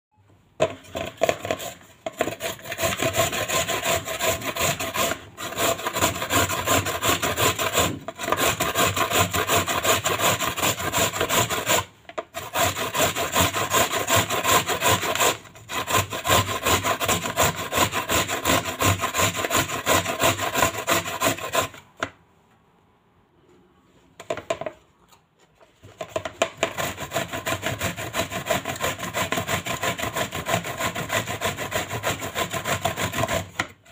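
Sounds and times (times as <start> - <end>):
vegetable scraping on metal grater: 0.6 - 21.8, 26.1 - 33.9.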